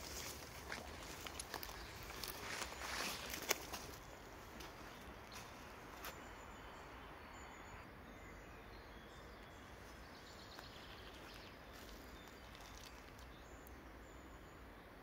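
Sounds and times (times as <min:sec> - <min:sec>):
faint ambient hiss: 0:00.0 - 0:15.0.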